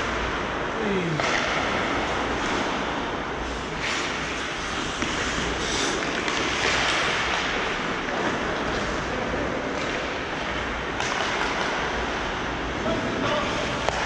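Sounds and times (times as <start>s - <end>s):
hockey rink rushing noise: 0.0s - 14.0s.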